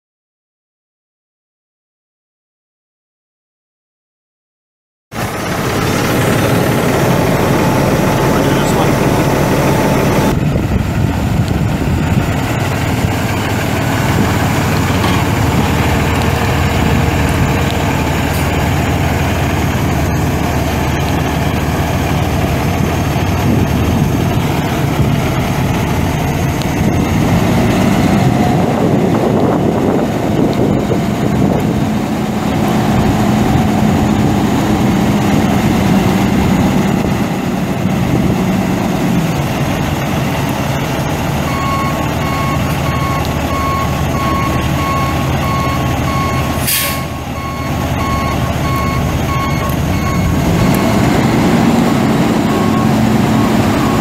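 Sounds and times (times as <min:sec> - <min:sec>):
diesel truck engine running: 0:05.1 - 0:54.0.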